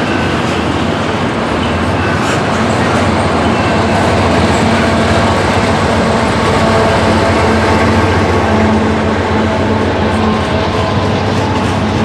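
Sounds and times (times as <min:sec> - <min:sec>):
diesel locomotive engine drone: 0:00.0 - 0:12.0
train cars rumbling on rails: 0:00.0 - 0:12.0.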